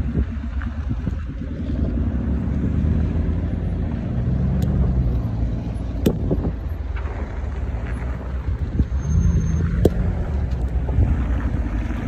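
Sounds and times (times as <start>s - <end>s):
engine running low: 0.0s - 12.0s.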